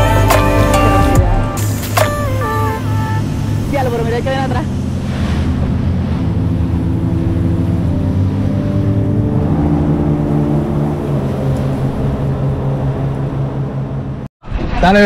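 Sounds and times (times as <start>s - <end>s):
boat engine drone: 0.0s - 14.3s
wind: 0.0s - 15.0s
water rushing: 1.4s - 15.0s.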